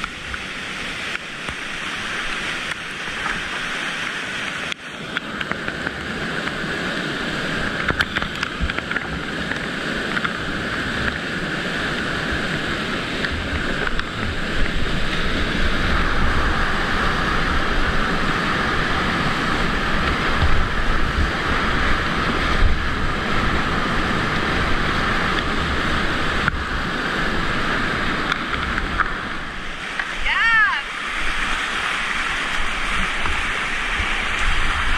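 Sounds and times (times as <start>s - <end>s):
water splashing: 0.0s - 34.9s
whitewater rushing over a weir: 0.0s - 34.9s.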